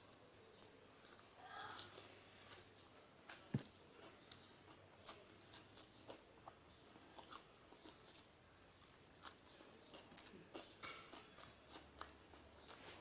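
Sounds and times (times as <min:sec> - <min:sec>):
person chewing: 0:00.0 - 0:13.0.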